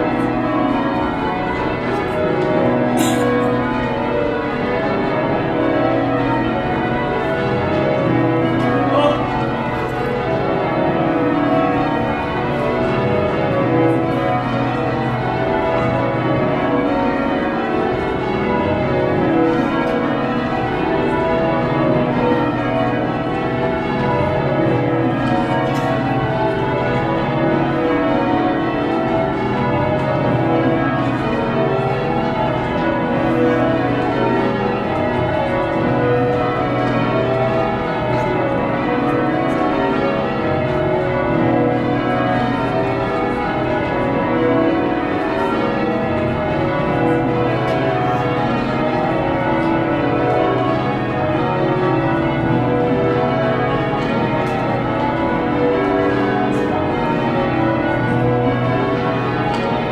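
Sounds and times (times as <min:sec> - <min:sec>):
church bells ringing in changes: 0:00.0 - 0:59.9.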